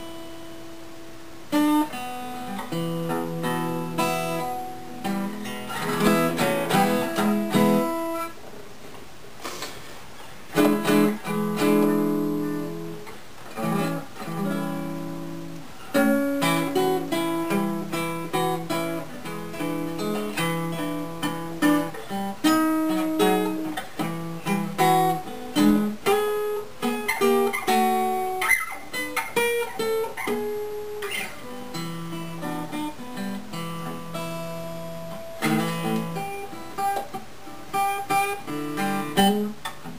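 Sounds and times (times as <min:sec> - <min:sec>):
acoustic guitar playing: 0:00.0 - 0:08.5, 0:09.4 - 0:39.9.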